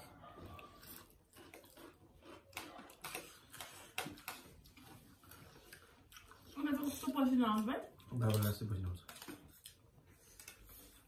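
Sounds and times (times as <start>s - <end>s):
chewing and slurping noodles: 0.0s - 7.2s, 9.0s - 11.0s.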